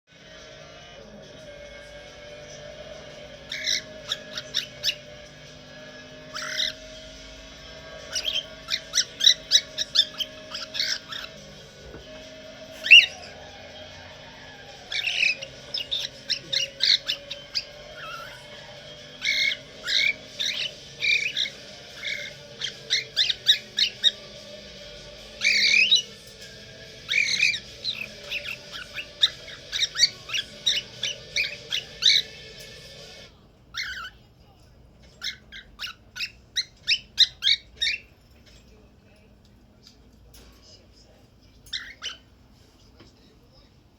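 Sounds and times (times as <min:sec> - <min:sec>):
budgerigar chirping and squawking: 0:01.4 - 0:34.3, 0:35.0 - 0:38.6, 0:41.7 - 0:42.4.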